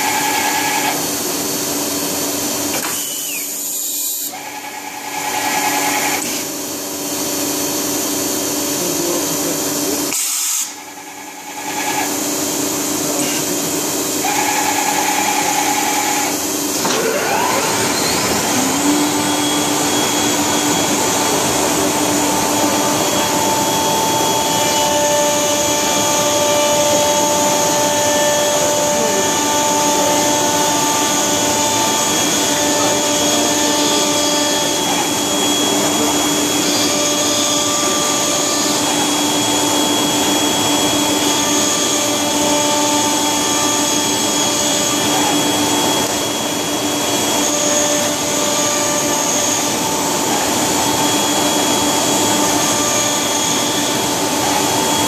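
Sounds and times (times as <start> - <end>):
machine rushing hum: 10.8 - 55.0.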